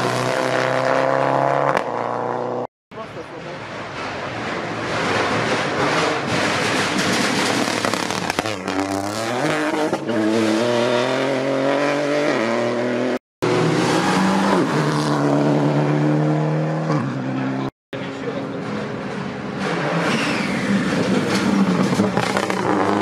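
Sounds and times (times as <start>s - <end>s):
rally car engine revving: 0.0s - 2.7s, 3.8s - 23.0s
road noise: 0.0s - 23.0s.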